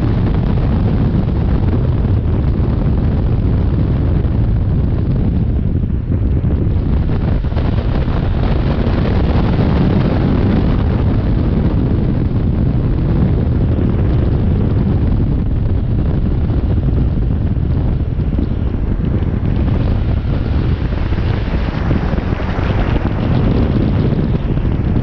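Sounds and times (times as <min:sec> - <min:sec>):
motorcycle engine running: 0:00.0 - 0:25.0
wind rushing over microphone: 0:00.0 - 0:25.0.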